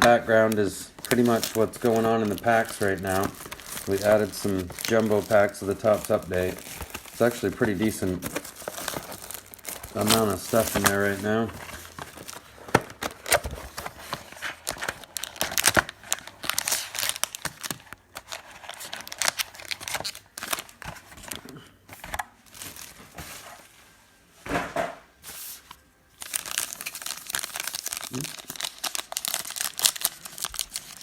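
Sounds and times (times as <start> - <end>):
card pack wrappers tearing: 0.0 - 21.6, 26.2 - 31.0.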